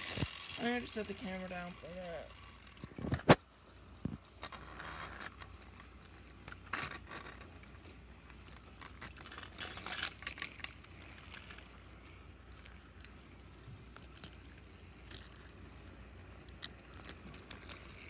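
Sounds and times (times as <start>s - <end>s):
fabric scraping and rustling: 3.0s - 18.0s.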